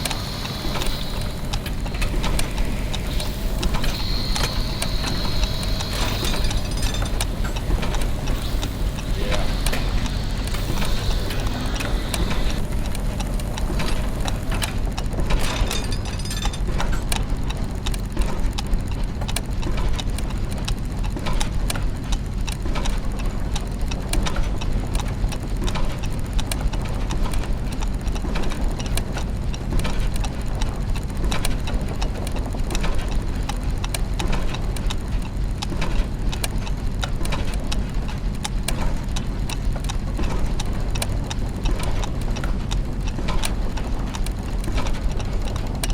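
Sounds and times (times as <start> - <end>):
clockwork gears ticking and clacking: 0.0 - 45.9
low mechanical hum: 0.0 - 45.9.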